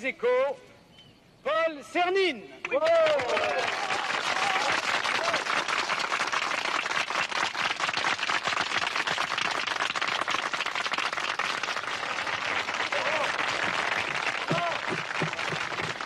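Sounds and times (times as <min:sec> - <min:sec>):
crowd applauding: 0:02.7 - 0:16.0.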